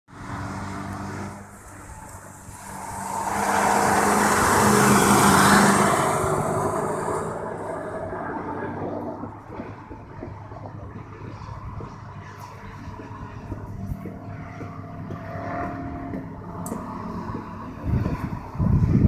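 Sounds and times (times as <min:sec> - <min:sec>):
racing car passing by: 0:00.1 - 0:09.8, 0:10.9 - 0:19.0.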